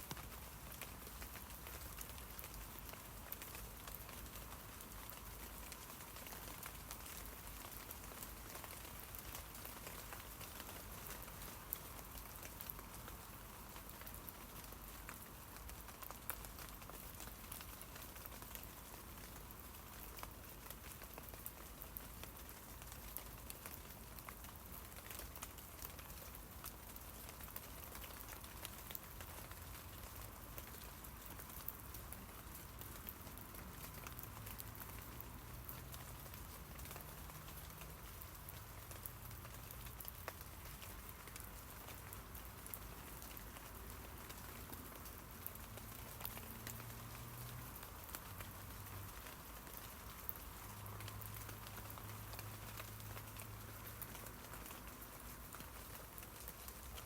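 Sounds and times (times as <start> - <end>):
rain hissing on leaves: 0.0 - 57.0
raindrops ticking on leaves: 0.0 - 57.0.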